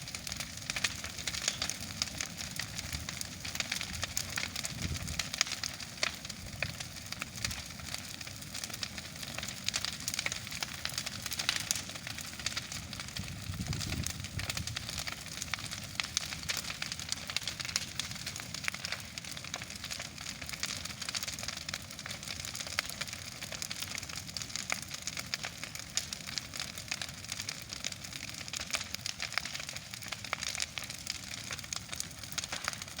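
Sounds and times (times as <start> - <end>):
bonfire crackling and popping: 0.0 - 33.0.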